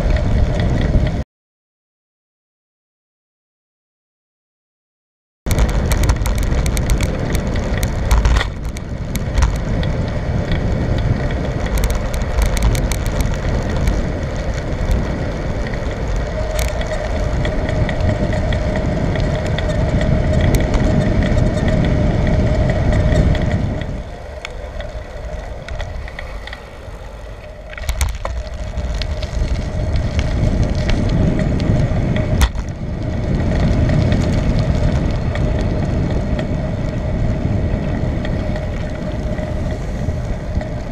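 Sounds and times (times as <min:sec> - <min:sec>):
bicycle rattling over bumps: 0:00.0 - 0:01.2, 0:05.5 - 0:40.9
bicycle tyre noise: 0:00.0 - 0:01.2, 0:05.5 - 0:40.9
wind buffeting microphone: 0:00.0 - 0:01.2, 0:05.5 - 0:40.9.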